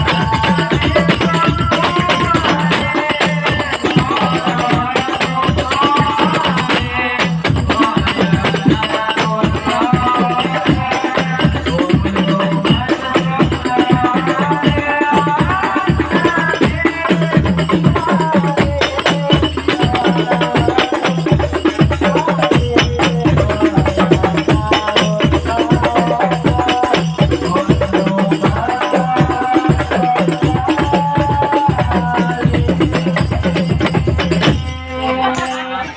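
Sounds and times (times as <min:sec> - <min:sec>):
frame drum and tambourine beat: 0:00.0 - 0:35.9.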